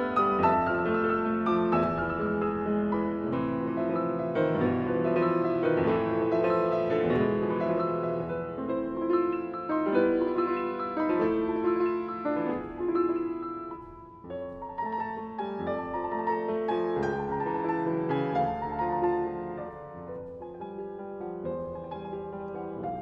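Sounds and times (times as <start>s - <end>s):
solo classical piano: 0.0s - 23.0s.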